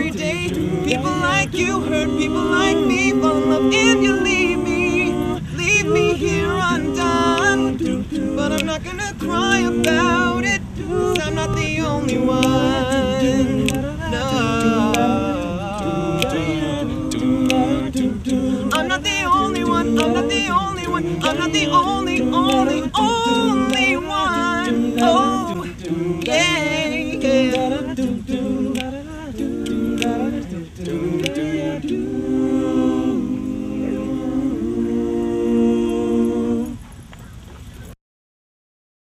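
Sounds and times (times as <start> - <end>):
a cappella group singing: 0.0 - 36.9.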